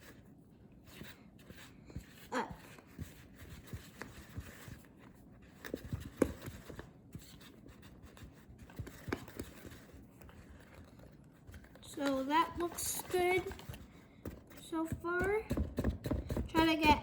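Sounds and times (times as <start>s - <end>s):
spoon stirring batter: 0.0s - 17.0s.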